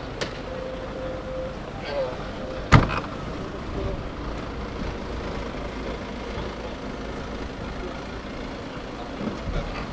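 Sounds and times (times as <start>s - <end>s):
car engines rumbling: 0.0s - 9.9s
van driving past: 0.0s - 9.9s.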